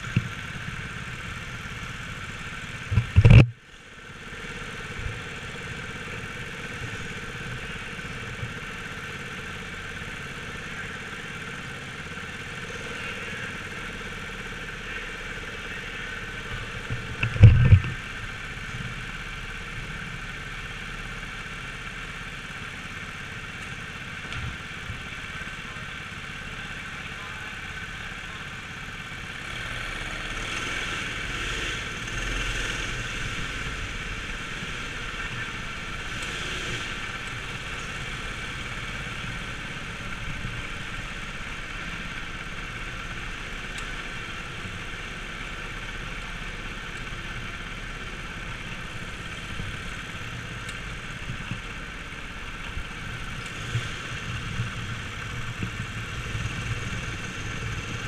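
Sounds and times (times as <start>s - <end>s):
go-kart engines running: 0.0s - 58.0s.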